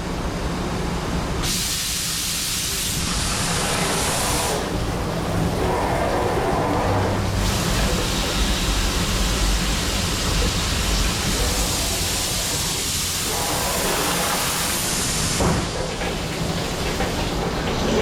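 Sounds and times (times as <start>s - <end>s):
lathe running with rushing hiss: 1.5s - 17.8s.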